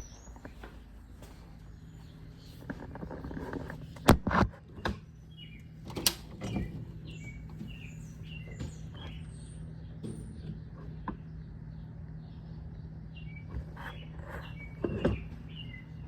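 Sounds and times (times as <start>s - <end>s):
small bird chirping: 0.0s - 4.1s, 4.7s - 16.0s
steady low hum: 0.0s - 16.0s.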